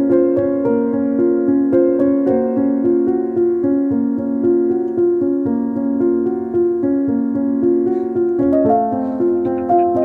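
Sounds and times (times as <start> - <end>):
piano melody: 0.0 - 10.0.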